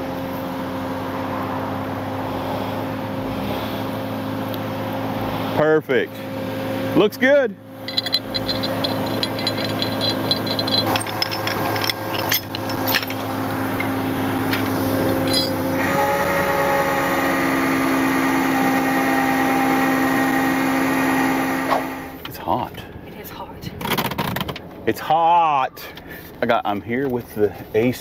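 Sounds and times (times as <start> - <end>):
vehicle engine whining: 0.0 - 24.8.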